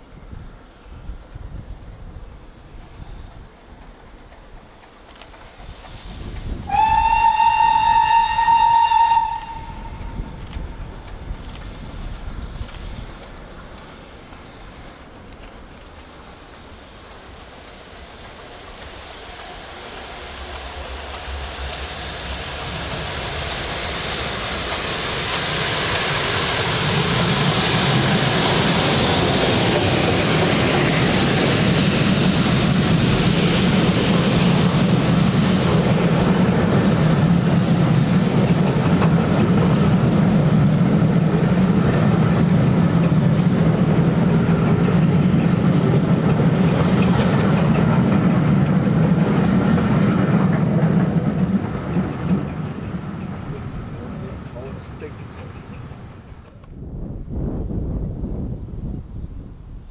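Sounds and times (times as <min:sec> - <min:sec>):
steam train passing: 0:00.0 - 0:59.9.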